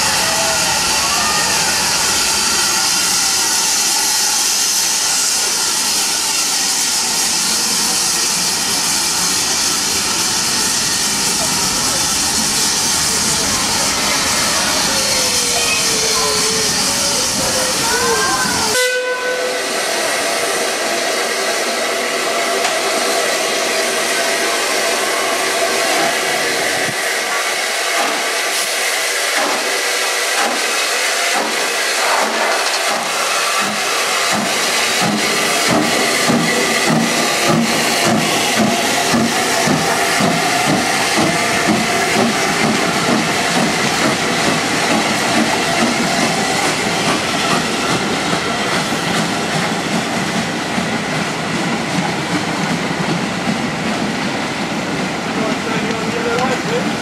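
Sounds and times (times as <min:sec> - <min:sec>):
steam hissing: 0:00.0 - 0:57.0
steam train passing slowly: 0:00.0 - 0:57.0.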